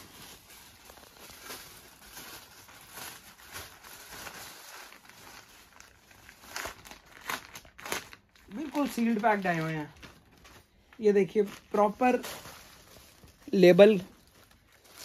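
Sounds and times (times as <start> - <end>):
plastic packing crinkling: 0.0 - 15.0.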